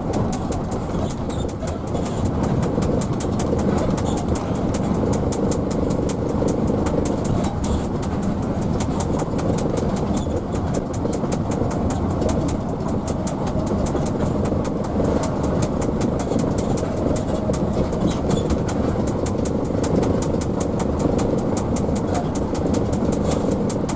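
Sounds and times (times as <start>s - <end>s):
bus engine and road noise: 0.0s - 23.9s
rapid even ticking: 0.0s - 23.9s.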